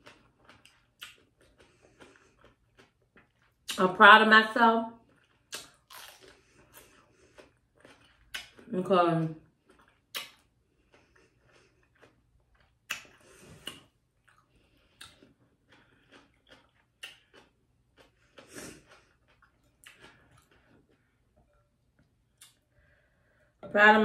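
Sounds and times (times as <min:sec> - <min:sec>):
person chewing cucumber: 0:00.0 - 0:03.8, 0:05.0 - 0:08.8, 0:09.4 - 0:23.5.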